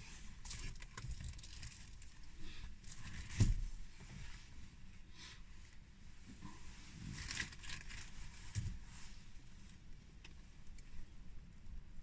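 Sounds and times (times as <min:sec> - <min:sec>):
small clicks and rustles: 0:00.0 - 0:04.5, 0:05.6 - 0:11.1.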